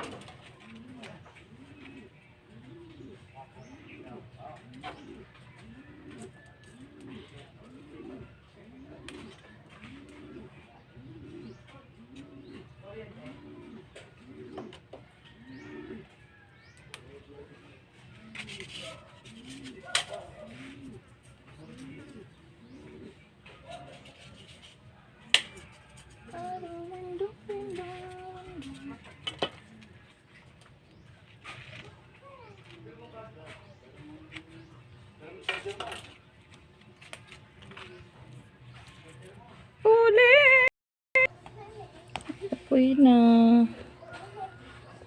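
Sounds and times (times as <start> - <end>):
dove cooing: 0.0 - 36.3, 41.2 - 45.0.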